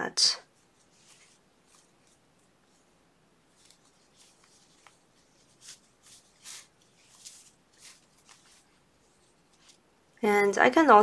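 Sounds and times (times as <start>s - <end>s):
yarn brushing through fabric: 0.4s - 10.2s.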